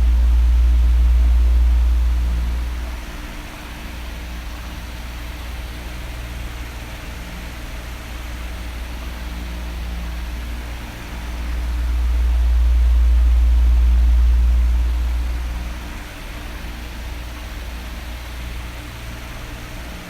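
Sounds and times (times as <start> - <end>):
electric fan whooshing: 0.0 - 20.0.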